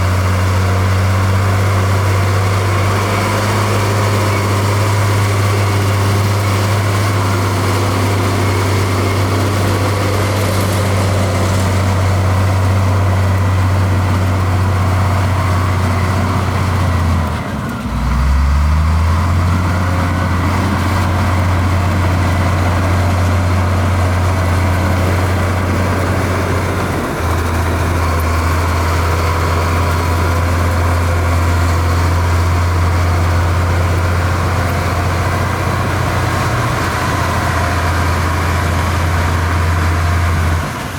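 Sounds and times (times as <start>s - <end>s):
heavy diesel engine droning: 0.0s - 40.9s.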